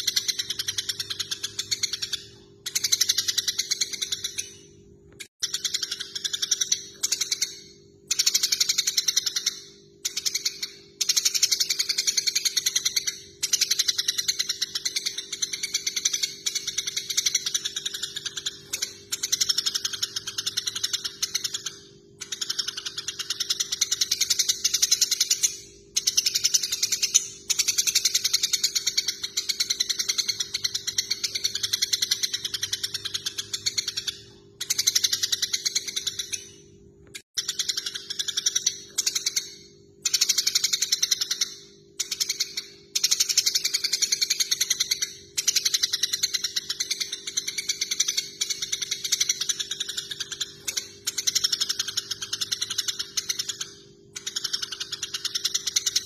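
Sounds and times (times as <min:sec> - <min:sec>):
sparrows chattering: 0:00.0 - 0:04.8, 0:05.4 - 0:56.0.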